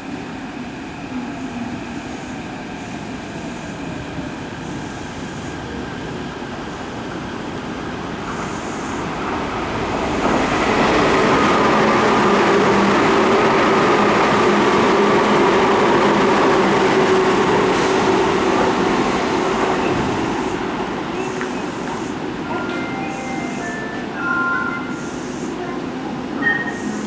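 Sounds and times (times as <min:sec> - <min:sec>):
train wheels on rails: 0:01.4 - 0:27.0.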